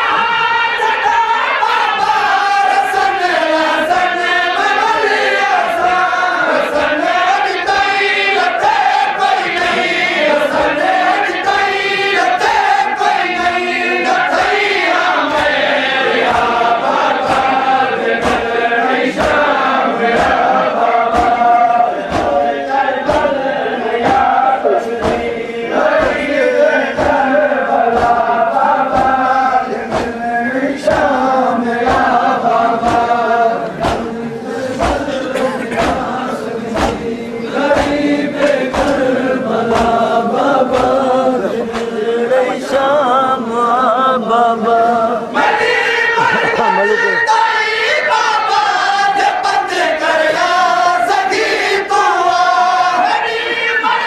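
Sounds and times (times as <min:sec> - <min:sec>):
crowd chest-beating slaps: 0:00.0 - 0:43.4, 0:44.8 - 0:54.0
men chanting a lament: 0:00.0 - 0:54.0.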